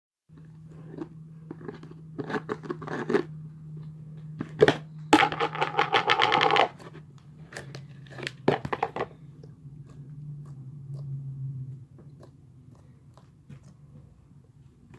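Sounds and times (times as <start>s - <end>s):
steady low hum: 0.3s - 14.9s.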